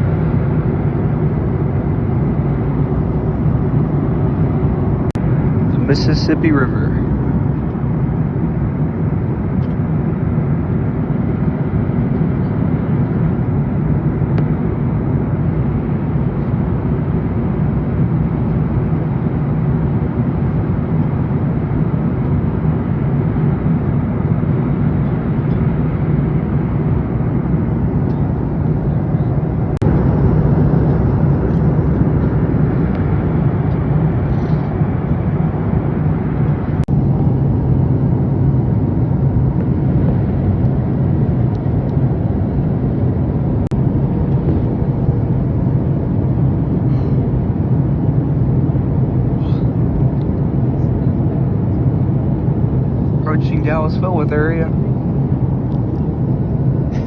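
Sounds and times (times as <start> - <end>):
airplane cabin noise: 0.0 - 57.0.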